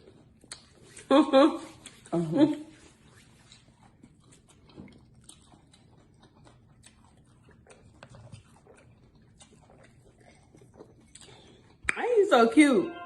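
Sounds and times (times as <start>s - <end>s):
chewing with mouth clicks: 0.0s - 12.2s.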